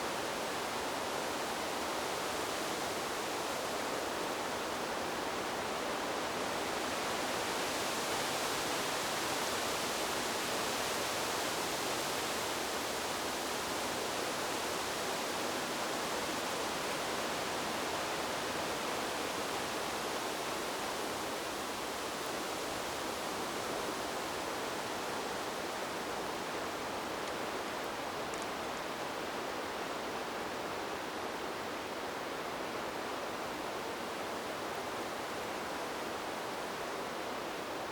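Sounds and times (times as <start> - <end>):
wind through bamboo leaves: 0.0 - 37.9.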